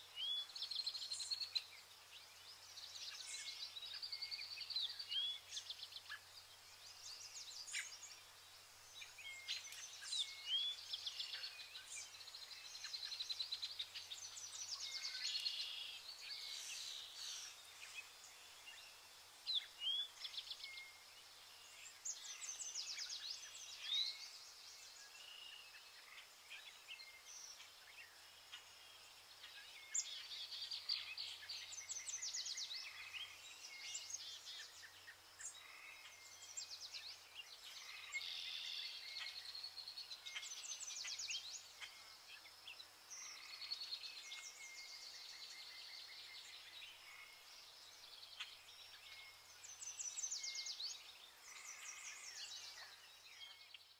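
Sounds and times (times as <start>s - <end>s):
birds singing trilled phrases: 0.0s - 53.9s.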